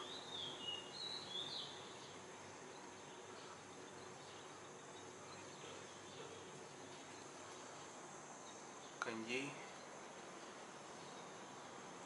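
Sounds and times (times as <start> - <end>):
quiet hiss: 0.0 - 12.0.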